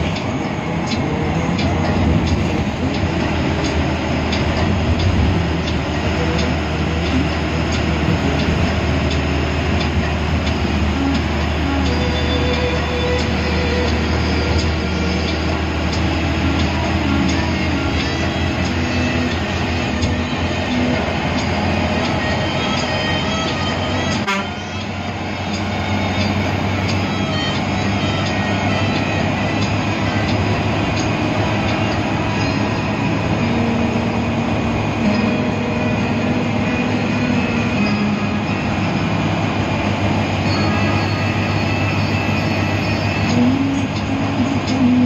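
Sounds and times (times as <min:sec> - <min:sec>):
bus engine humming: 0:00.0 - 0:45.0.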